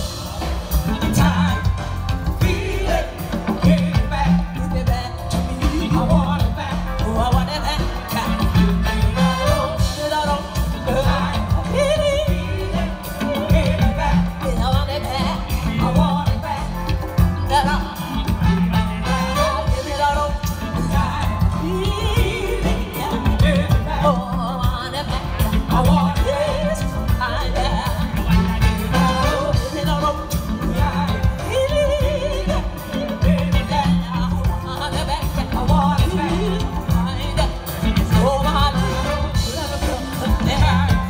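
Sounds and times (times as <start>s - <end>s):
live band playing: 0.0s - 41.0s
pulsing bass: 0.0s - 41.0s
woman singing: 0.0s - 41.0s.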